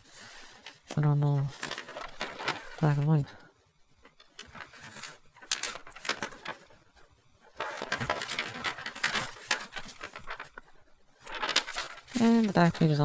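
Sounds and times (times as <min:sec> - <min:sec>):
paper pages rustling and turning: 0:00.0 - 0:03.3, 0:04.0 - 0:13.0.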